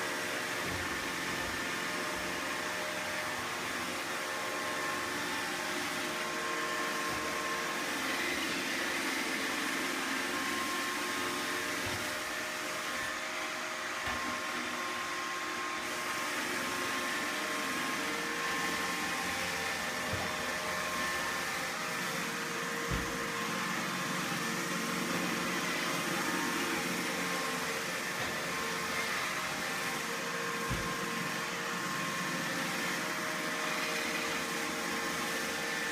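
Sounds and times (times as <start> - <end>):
robot vacuum whirring: 0.0 - 35.9.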